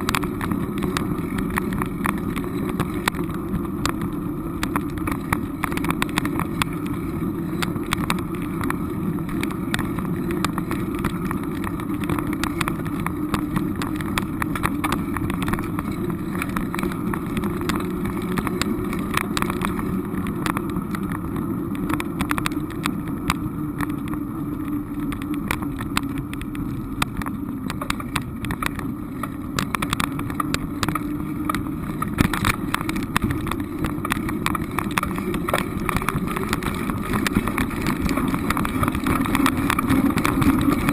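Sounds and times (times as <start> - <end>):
moving vehicle rumble: 0.0 - 40.9.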